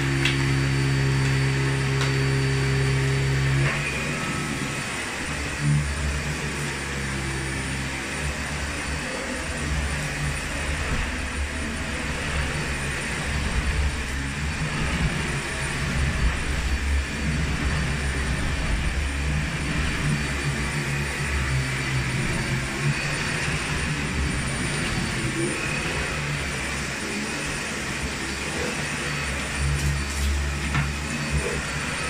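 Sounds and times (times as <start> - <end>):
vacuum cleaner running on carpet: 0.0 - 32.0.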